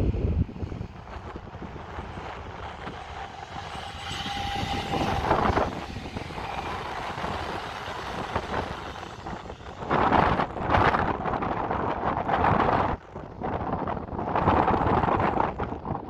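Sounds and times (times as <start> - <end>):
train wheels rolling on rails: 0.0 - 15.8
train whine: 0.0 - 15.8.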